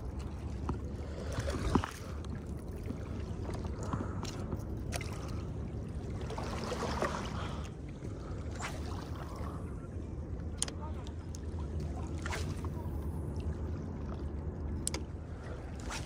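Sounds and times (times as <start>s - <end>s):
water sloshing and lapping: 0.0s - 16.0s.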